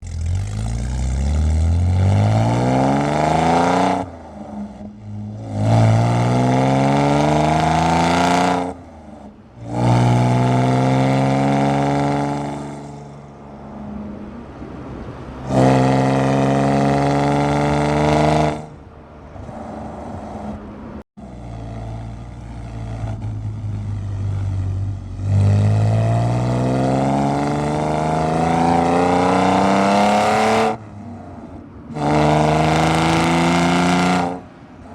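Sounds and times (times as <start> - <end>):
loud car exhaust revving: 0.0 - 13.3, 15.4 - 20.6, 21.2 - 34.9.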